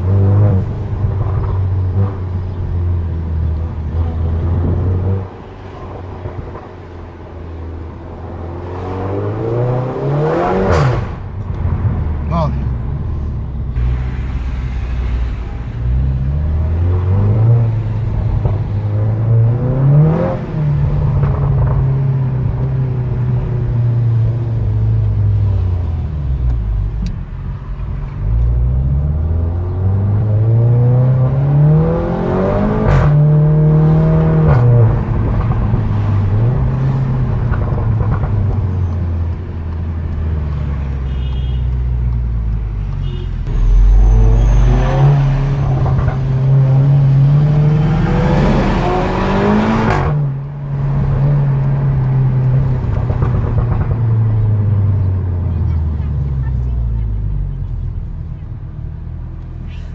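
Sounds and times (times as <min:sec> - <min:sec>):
car engine accelerating through gears: 0:00.0 - 0:41.0, 0:42.0 - 0:59.9.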